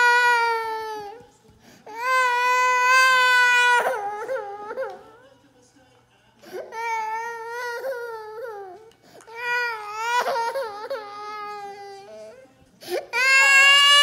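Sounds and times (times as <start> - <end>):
toddler crying: 0.0 - 1.2, 1.9 - 5.2, 6.6 - 14.0.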